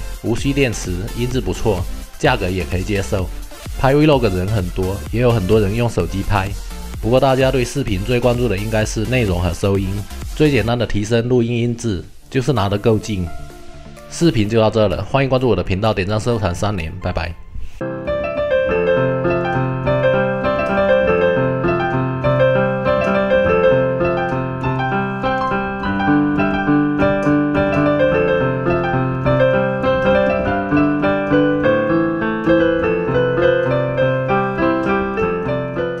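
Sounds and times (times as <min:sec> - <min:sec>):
piano music: 0:00.0 - 0:10.8, 0:12.0 - 0:15.4, 0:16.6 - 0:36.0.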